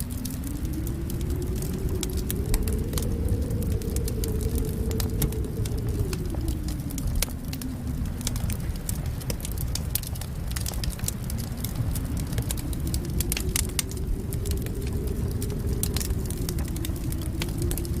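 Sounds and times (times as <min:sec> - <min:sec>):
deep rumble: 0:00.0 - 0:18.0
wind howling: 0:00.0 - 0:18.0
wood fire crackling: 0:00.0 - 0:18.0.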